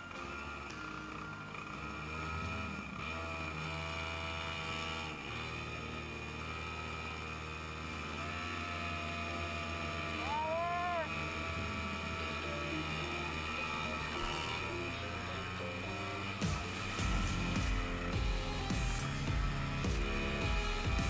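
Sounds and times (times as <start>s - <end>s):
go-kart engines running: 0.0s - 21.0s.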